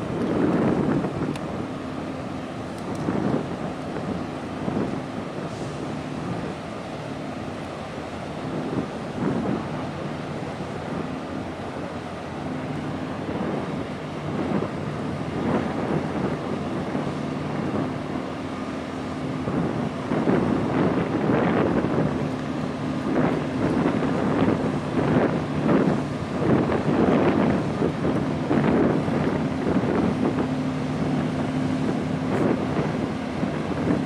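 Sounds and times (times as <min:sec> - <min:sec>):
ship engines droning: 0:00.0 - 0:34.0
wind gusting on microphone: 0:00.0 - 0:34.0.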